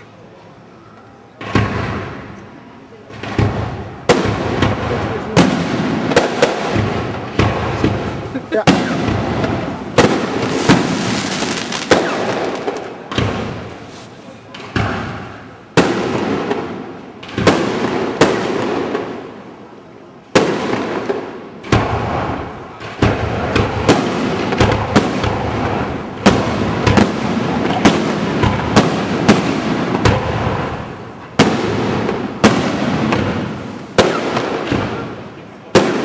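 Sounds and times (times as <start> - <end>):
fireworks bursting with bangs: 1.4 - 2.4, 3.0 - 36.0
fireworks crackle: 3.2 - 19.5, 20.4 - 36.0.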